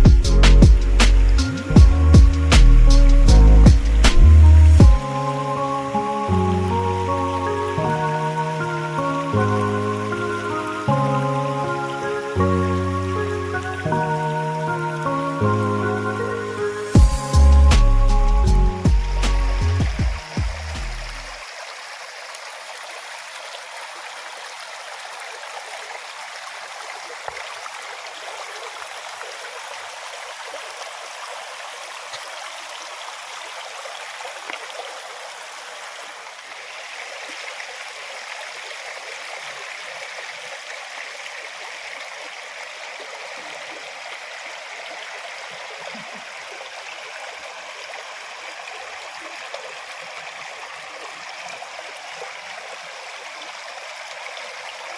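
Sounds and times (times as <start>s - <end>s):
stream water running: 0.0s - 54.9s.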